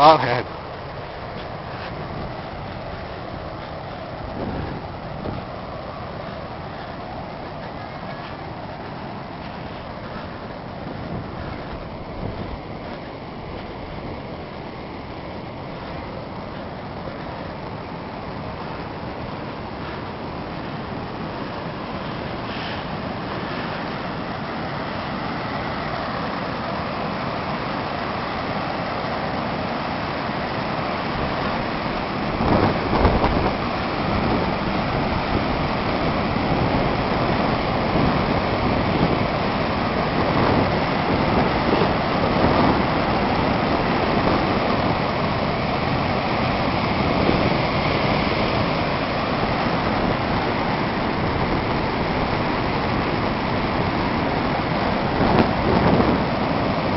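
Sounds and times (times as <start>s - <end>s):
breaking surf: 0.0s - 56.9s
wind on microphone: 0.0s - 56.9s.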